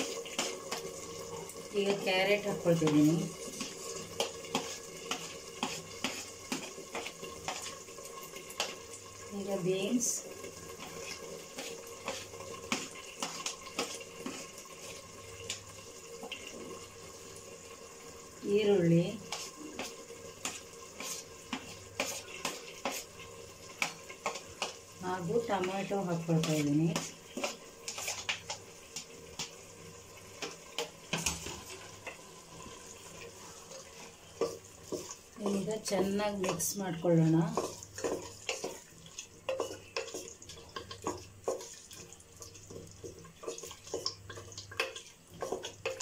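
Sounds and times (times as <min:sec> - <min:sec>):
vegetables frying in oil: 0:00.0 - 0:46.0
wooden spatula stirring pot: 0:00.0 - 0:46.0.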